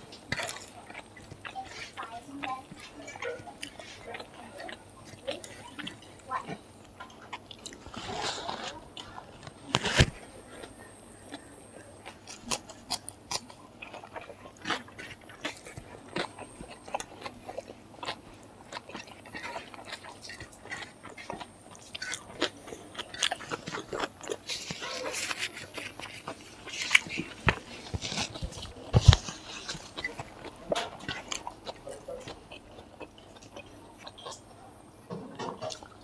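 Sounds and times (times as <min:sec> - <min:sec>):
close-up chewing and crunching: 0:00.0 - 0:36.0.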